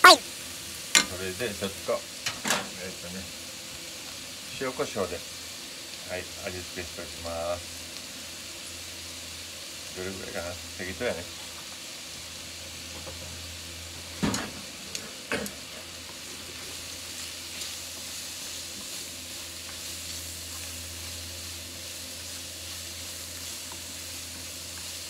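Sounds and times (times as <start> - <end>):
food sizzling in frying pan: 0.0 - 25.0.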